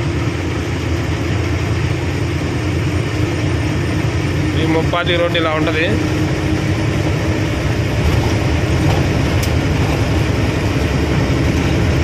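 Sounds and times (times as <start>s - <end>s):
road noise hiss: 0.0s - 12.0s
truck engine drone: 0.0s - 12.0s.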